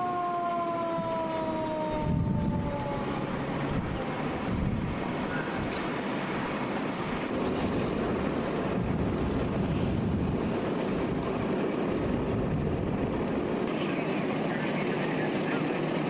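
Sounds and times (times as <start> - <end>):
strong wind buffeting microphone: 0.8 - 14.8.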